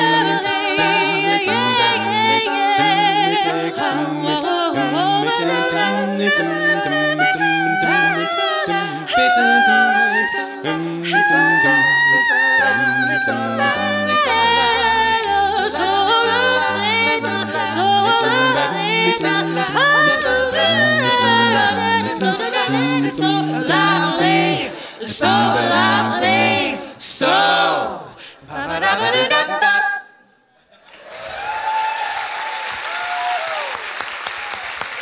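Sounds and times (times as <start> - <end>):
a cappella quartet singing: 0.0 - 30.5.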